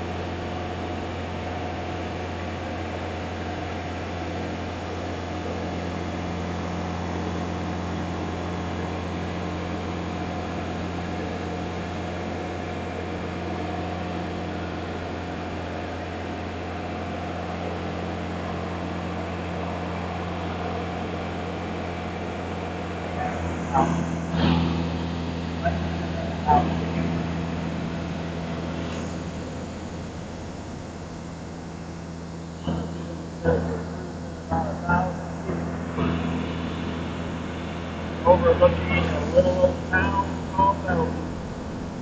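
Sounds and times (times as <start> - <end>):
airplane engine and propeller drone: 0.0 - 42.0.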